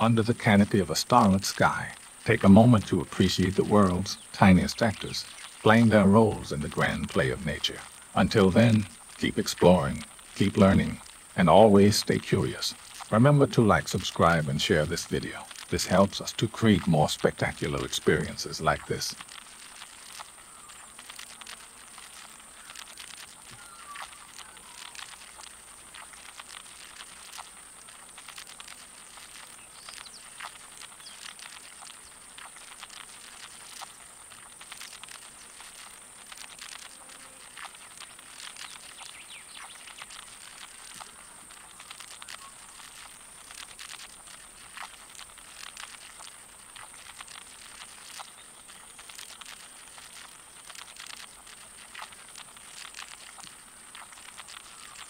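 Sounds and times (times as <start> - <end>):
beetle feet clicking and scratching: 0.0 - 55.0
high-pitched hiss: 0.0 - 55.0.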